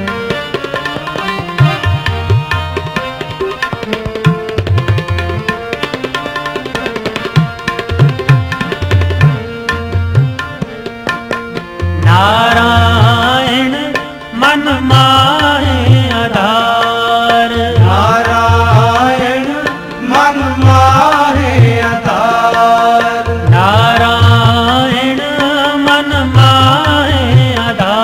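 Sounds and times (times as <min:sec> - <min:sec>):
instrumental melody: 0:00.0 - 0:28.0
tabla rhythm: 0:00.0 - 0:28.0.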